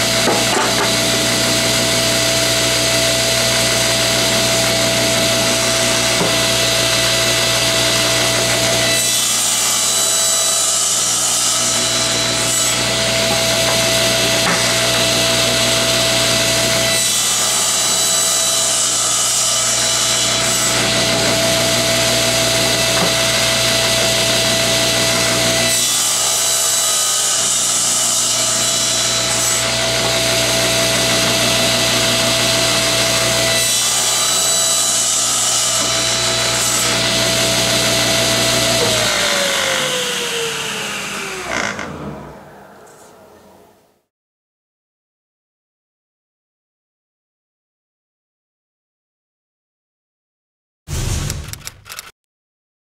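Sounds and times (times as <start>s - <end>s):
table saw cutting wood: 0.0s - 43.2s
table saw humming: 0.0s - 43.5s.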